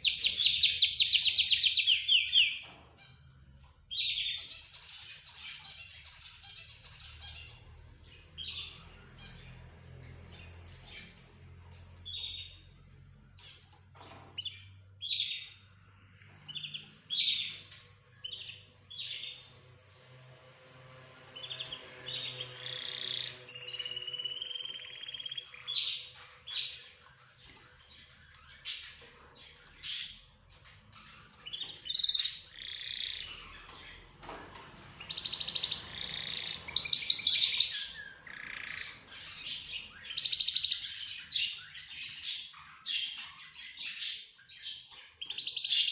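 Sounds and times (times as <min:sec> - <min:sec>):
cage birds chirping: 0:00.0 - 0:45.9.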